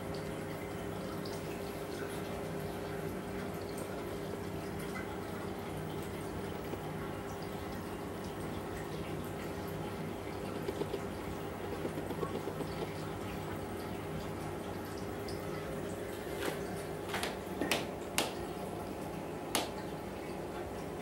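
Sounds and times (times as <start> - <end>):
aquarium pump hum: 0.0 - 21.0
trickling water: 0.0 - 21.0.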